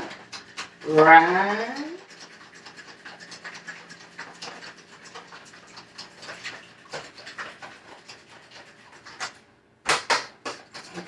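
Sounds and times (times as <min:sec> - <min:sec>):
fork beating egg in a bowl: 0:00.0 - 0:11.0.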